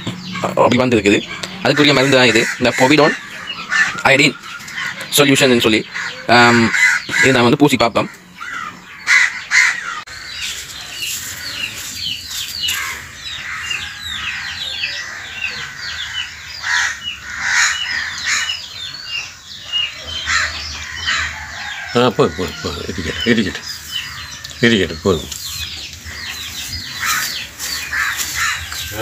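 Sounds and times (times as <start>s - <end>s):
chicks peeping: 0.0s - 29.0s
louder bird calls: 0.0s - 29.0s.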